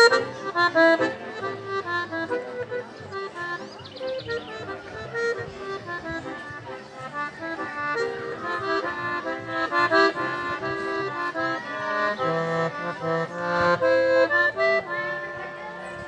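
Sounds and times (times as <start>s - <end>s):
accordion playing melody: 0.0s - 16.0s.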